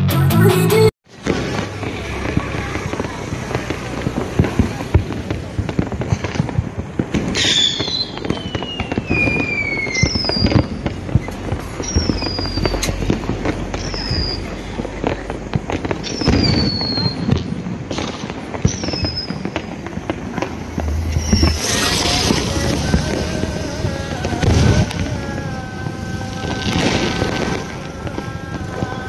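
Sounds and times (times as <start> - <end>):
firecrackers bangs and pops: 1.1 - 29.0
fireworks whistling: 1.1 - 29.0.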